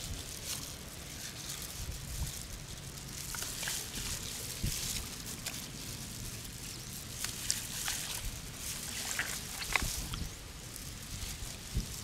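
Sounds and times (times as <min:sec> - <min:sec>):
plastic glove crinkle: 0:00.0 - 0:12.0.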